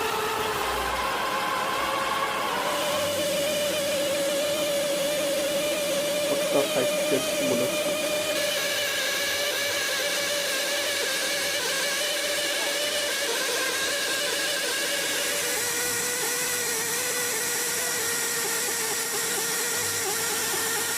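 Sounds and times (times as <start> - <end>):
small electric motor whining: 0.0 - 20.9.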